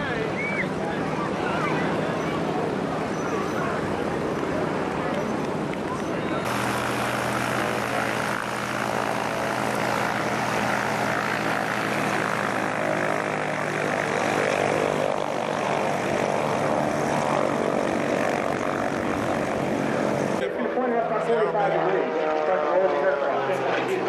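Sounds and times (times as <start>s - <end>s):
propeller airplane engine drone: 0.0s - 24.0s.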